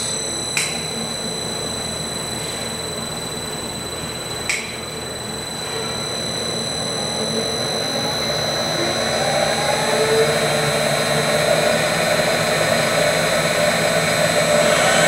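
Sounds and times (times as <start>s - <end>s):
high-pitched whine: 0.0s - 15.0s
mixer motor hum rising: 0.0s - 15.0s.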